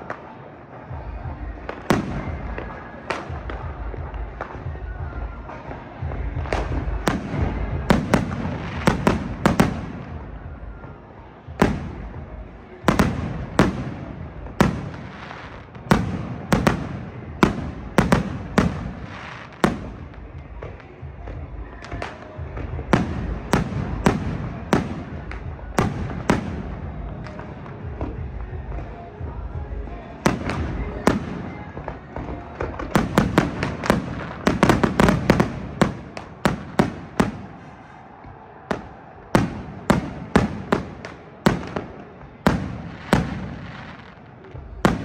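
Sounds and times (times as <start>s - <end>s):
distant fireworks crackle and rumble: 0.0s - 45.0s
fireworks bangs: 0.0s - 45.0s.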